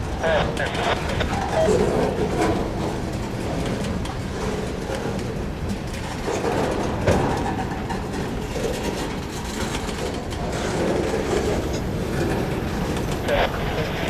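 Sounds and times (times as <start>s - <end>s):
freight train rumbling past: 0.0s - 14.0s
wheels clicking over rail joints: 1.8s - 13.2s.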